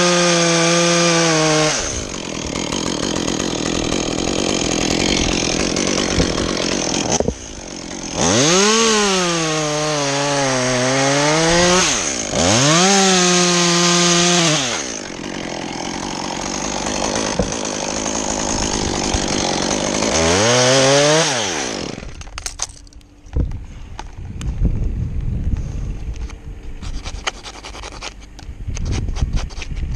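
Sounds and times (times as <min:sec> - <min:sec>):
chainsaw cutting wood: 0:00.0 - 0:23.0, 0:26.8 - 0:29.9.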